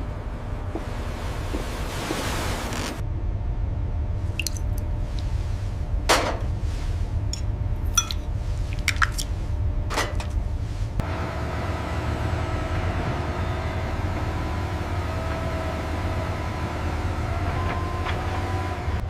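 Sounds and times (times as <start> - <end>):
steady low rumble: 0.0 - 17.2.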